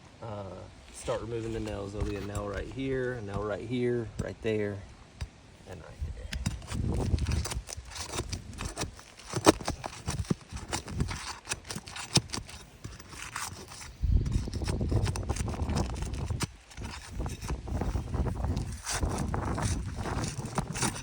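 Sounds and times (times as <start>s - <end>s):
hammer scraping on shingles: 0.9s - 21.0s.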